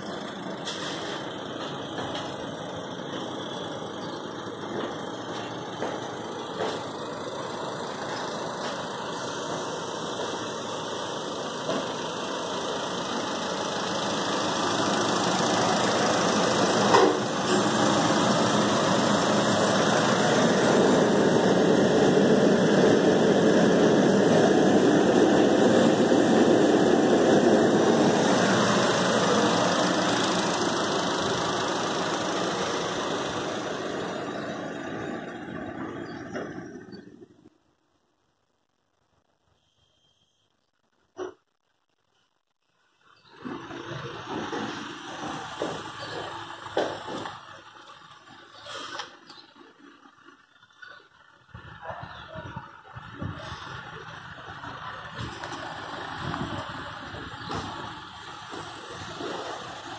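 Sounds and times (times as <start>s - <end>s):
car engine running: 0.0s - 37.5s, 43.3s - 59.9s.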